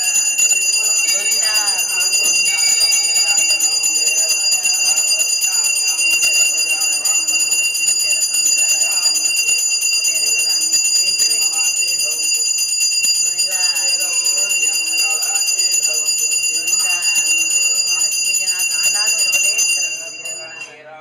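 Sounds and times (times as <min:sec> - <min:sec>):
hand bell ringing: 0:00.0 - 0:20.8.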